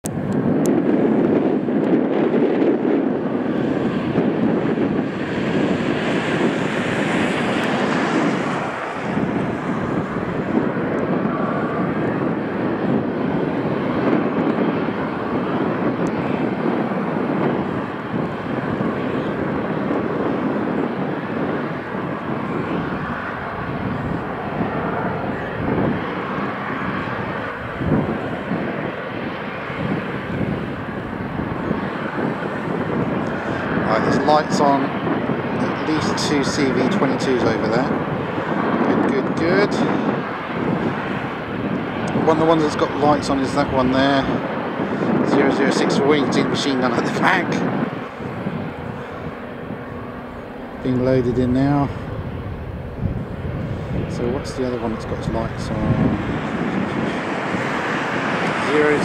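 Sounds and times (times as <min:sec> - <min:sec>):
aircraft engine noise: 0:00.0 - 0:59.0.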